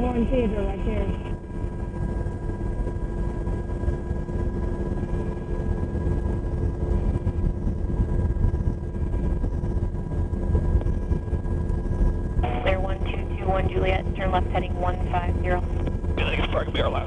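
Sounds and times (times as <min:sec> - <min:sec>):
helicopter rotor and engine rumble: 0:00.0 - 0:17.0
humming tones: 0:00.0 - 0:17.0.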